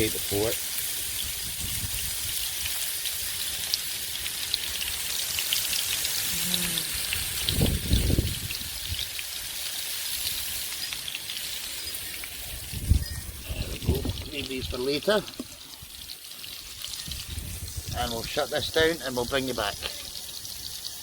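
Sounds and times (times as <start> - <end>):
fire crackles and pops: 0.0 - 18.4
kebabs sizzling on a grill: 0.0 - 21.0.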